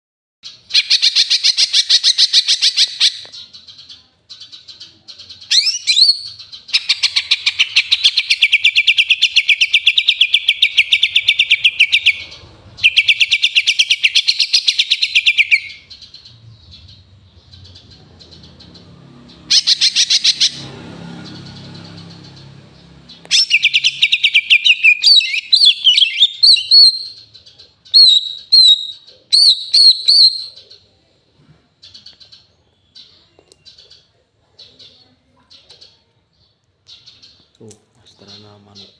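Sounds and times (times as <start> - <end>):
bird rapid chirping song: 0.4 - 31.0, 31.8 - 38.9.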